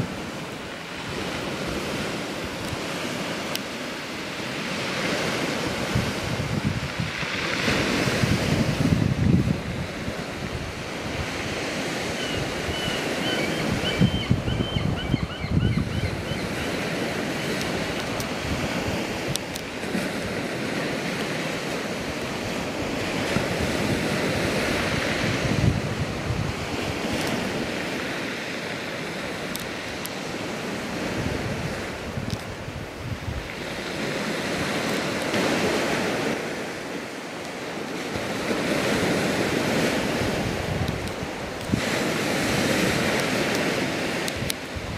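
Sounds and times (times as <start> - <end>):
sea surf washing: 0.0 - 44.9
wind buffeting microphone: 4.4 - 36.7, 37.9 - 44.9.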